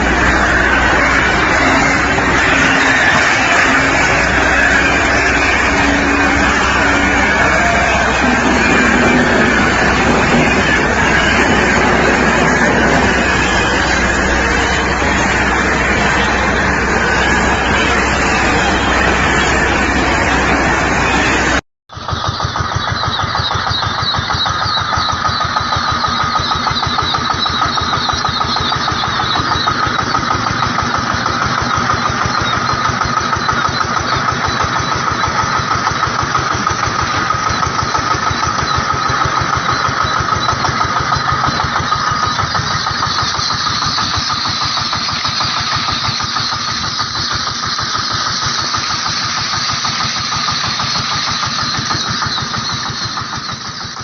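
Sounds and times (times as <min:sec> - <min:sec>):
engine running steadily: 0:00.0 - 0:54.0
high whine: 0:00.0 - 0:54.0.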